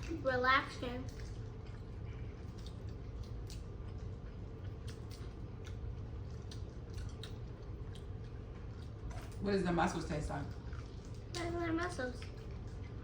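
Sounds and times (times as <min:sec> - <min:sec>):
chewing and wet mouth sounds: 0:00.0 - 0:13.0
low steady hum: 0:00.0 - 0:13.0.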